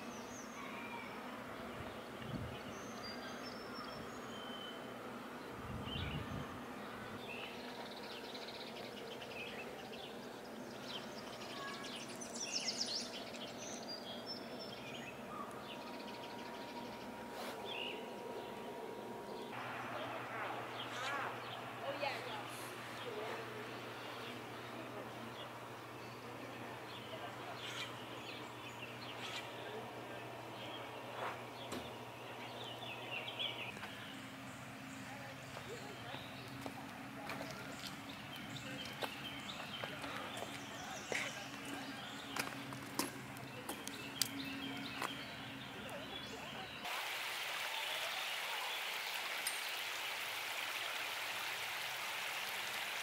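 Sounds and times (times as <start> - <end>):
faint low hum: 0.0 - 46.9
small birds chirping: 0.0 - 53.0
steady background hiss: 0.0 - 53.0.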